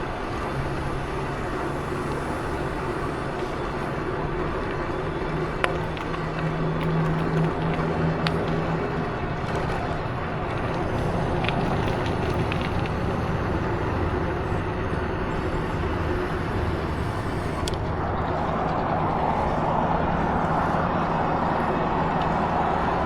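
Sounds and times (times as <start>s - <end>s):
vehicle running noise: 0.0s - 23.0s.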